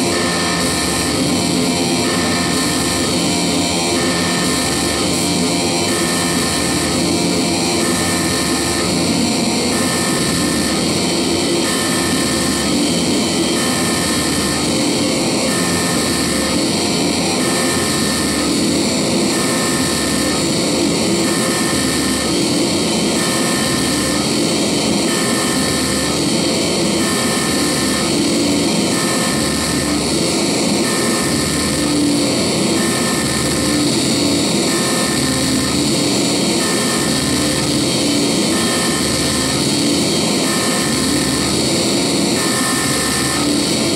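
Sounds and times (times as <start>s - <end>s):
harsh electronic noise music: 0.0s - 43.9s
pulsing low throb: 0.0s - 43.9s.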